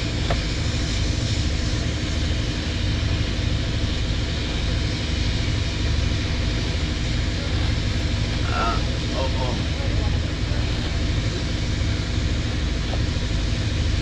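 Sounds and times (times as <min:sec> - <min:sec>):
machine rumbling and humming: 0:00.0 - 0:14.0.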